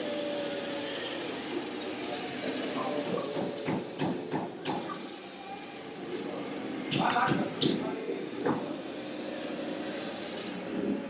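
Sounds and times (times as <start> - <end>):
toy truck drivetrain whirring: 0.0 - 6.9, 8.0 - 11.0.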